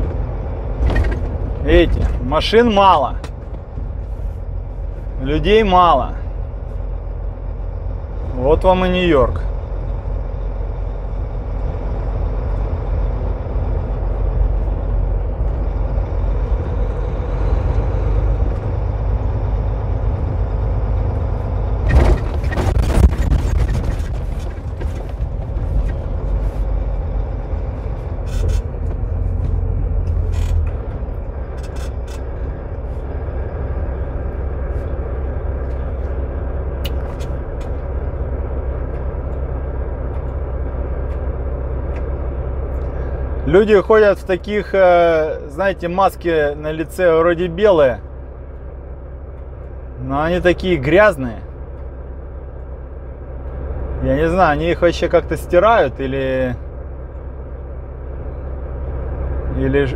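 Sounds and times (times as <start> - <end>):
truck diesel engine and road noise: 0.0 - 59.9.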